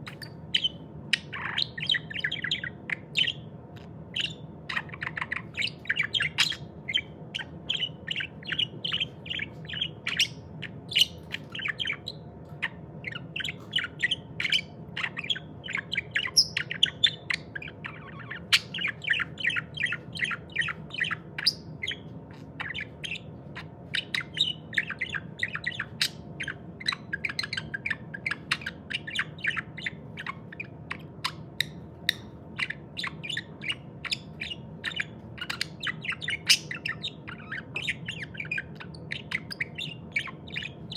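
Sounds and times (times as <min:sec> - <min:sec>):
budgerigar chirping: 0:00.0 - 0:40.9
faint low hum: 0:00.0 - 0:40.9.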